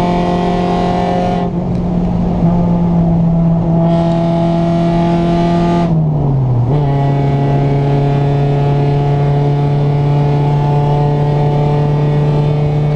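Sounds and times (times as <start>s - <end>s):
car engine at steady revs: 0.0s - 12.9s.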